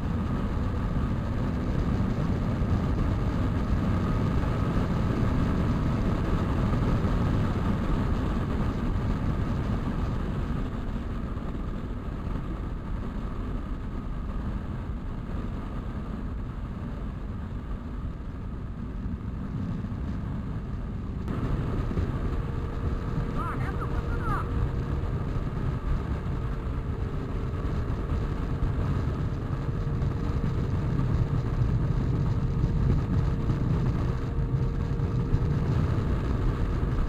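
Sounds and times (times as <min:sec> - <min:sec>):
motorcycle engine running: 0:00.0 - 0:37.0
wind and road noise: 0:00.0 - 0:37.0.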